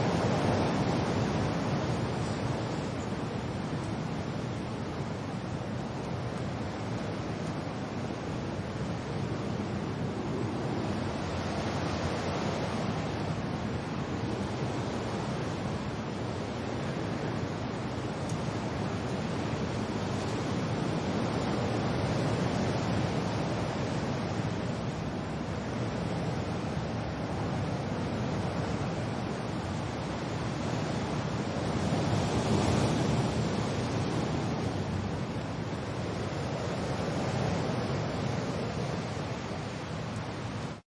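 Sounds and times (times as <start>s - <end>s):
rain: 0.0s - 40.8s
wind: 0.0s - 40.8s.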